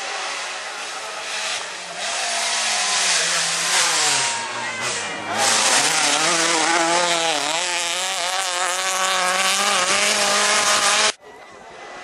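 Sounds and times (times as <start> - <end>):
car engine at high revs: 0.0 - 11.2.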